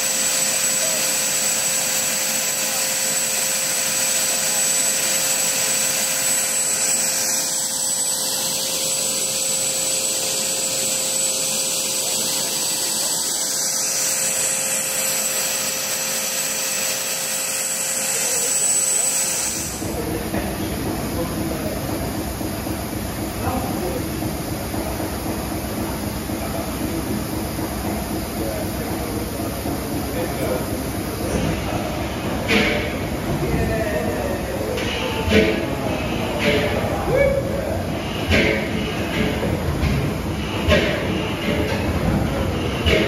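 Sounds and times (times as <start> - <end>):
gas turbine engine whine: 0.0 - 43.0
lower-pitched machinery: 0.0 - 43.0.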